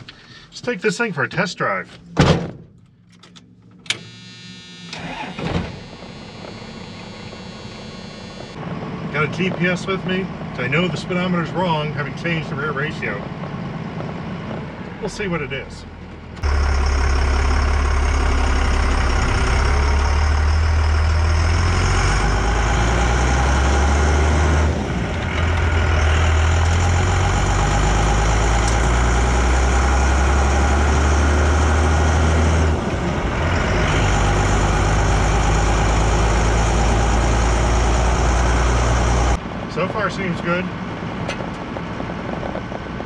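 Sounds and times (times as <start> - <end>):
diesel pickup engine under load: 4.9 - 43.0.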